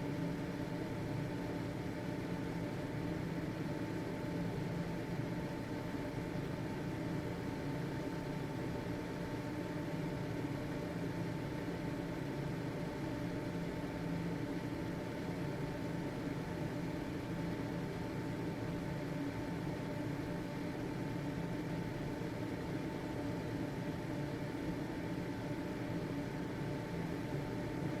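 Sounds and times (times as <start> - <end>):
ventilation fan running: 0.0 - 28.0.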